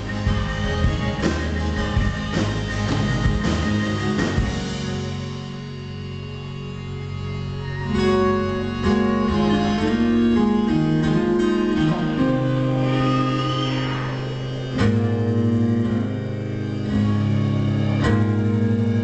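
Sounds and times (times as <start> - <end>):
acoustic guitar strummed: 0.0 - 19.0
sustained cello notes: 0.0 - 19.0.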